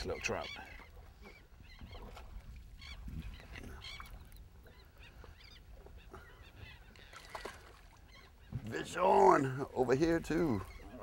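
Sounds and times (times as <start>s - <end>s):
birds calling: 0.0s - 11.0s
wind and water rumble: 0.0s - 11.0s.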